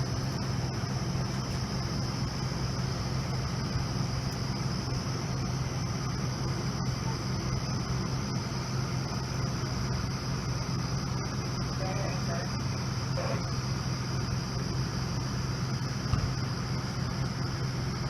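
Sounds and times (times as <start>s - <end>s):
crickets chirring: 0.0s - 18.0s
low mechanical hum: 0.0s - 18.0s.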